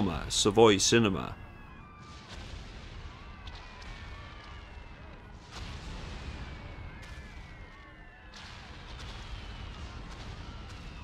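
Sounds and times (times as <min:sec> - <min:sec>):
falling bomb whistles: 0:01.0 - 0:11.0
explosion blasts: 0:01.6 - 0:11.0.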